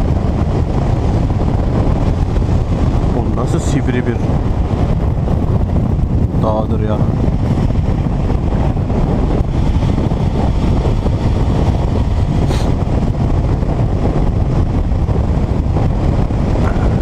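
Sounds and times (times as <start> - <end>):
motorcycle engine running: 0.0 - 3.4, 4.2 - 17.0
wind rushing over microphone: 0.0 - 17.0.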